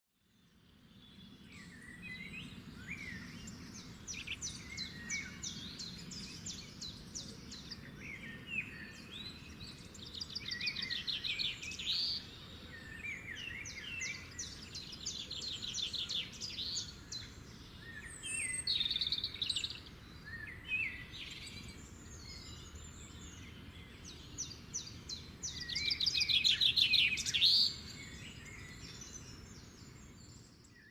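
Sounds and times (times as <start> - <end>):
songbird singing: 0.2 - 30.9.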